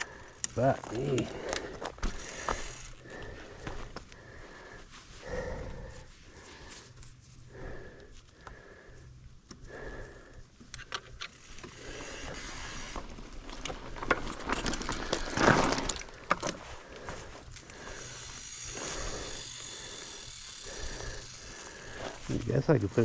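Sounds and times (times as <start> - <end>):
soft breathing: 0.0 - 23.0.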